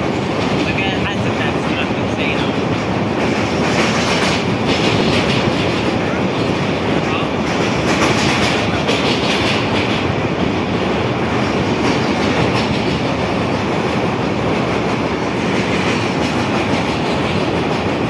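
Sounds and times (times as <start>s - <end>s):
train wheels clattering on bridge: 0.0s - 18.0s.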